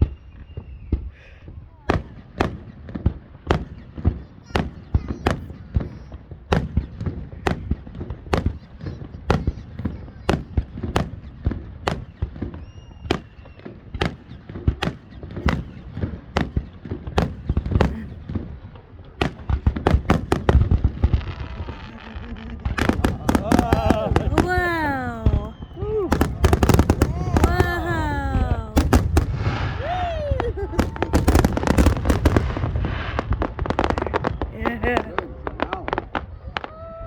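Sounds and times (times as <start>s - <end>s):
fireworks bursting: 1.9s - 36.8s.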